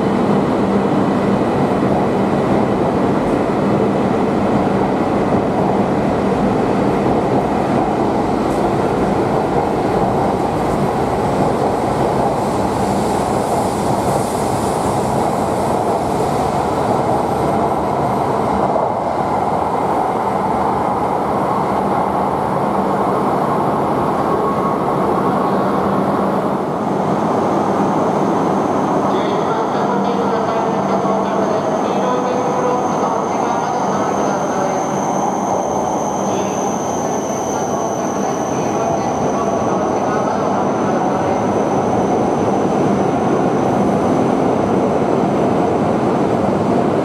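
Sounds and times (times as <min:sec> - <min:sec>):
train rumbling at platform: 0:00.0 - 0:47.0.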